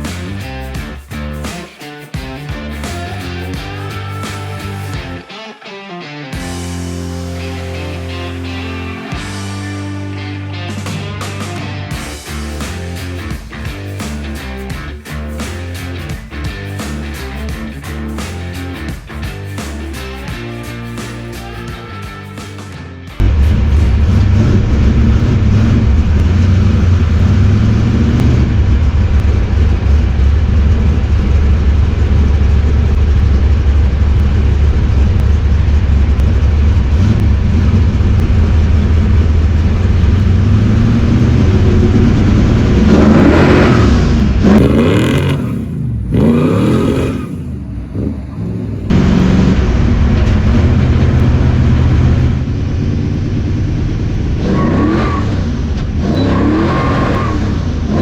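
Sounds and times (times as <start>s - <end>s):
truck engine rumbling: 0.0s - 1.6s, 6.4s - 58.0s
truck engine revving: 2.2s - 5.2s, 6.4s - 58.0s.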